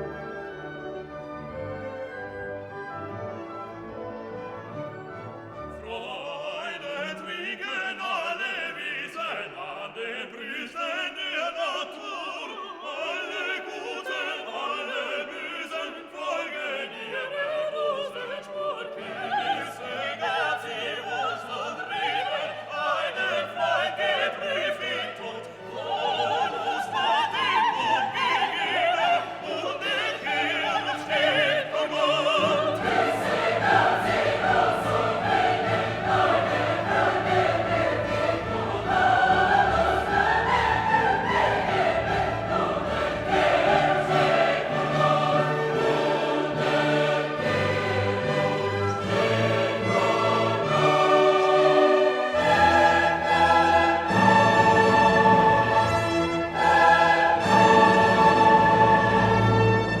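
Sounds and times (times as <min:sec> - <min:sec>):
orchestral music: 0:00.0 - 1:00.0
operatic singing: 0:05.5 - 1:00.0.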